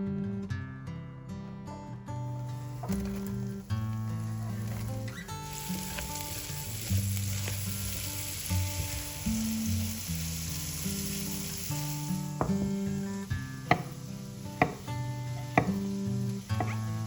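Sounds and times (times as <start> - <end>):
food sizzling in a pan: 2.2 - 17.0.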